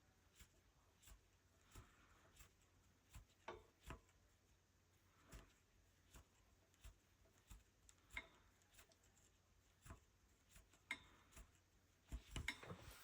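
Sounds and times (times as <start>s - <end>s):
rug hook clicking through cloth: 0.3s - 4.4s, 5.0s - 13.0s.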